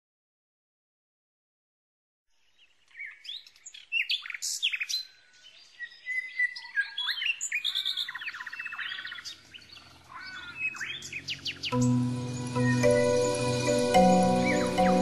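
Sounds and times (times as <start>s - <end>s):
birds chirping and singing: 2.4s - 15.0s
bird trill: 3.0s - 15.0s.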